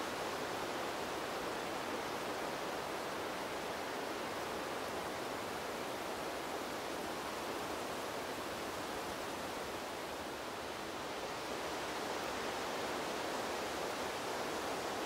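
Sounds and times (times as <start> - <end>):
wind blowing through trees: 0.0 - 15.0.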